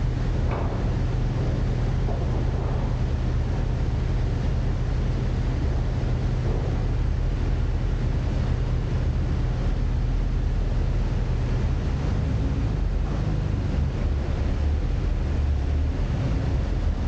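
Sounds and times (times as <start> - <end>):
ferry engines droning: 0.0 - 17.0.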